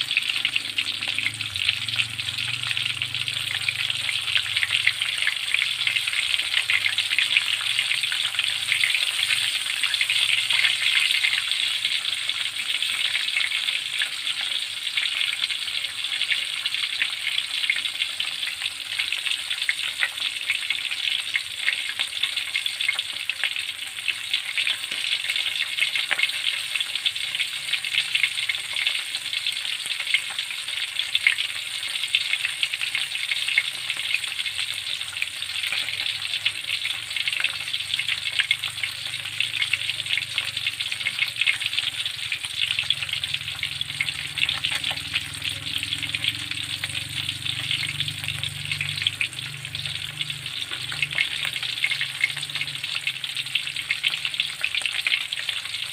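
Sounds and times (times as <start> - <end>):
fish frying in hot oil: 0.0 - 55.9.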